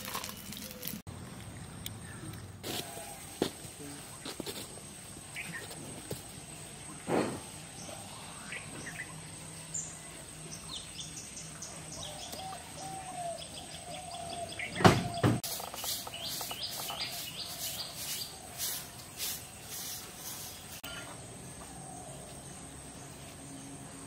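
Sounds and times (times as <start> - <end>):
small birds chirping: 3.8 - 24.0.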